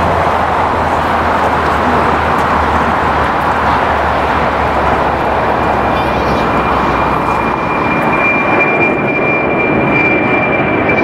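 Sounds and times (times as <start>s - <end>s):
jet engines roaring: 0.0s - 11.0s
low engine hum: 0.0s - 11.0s.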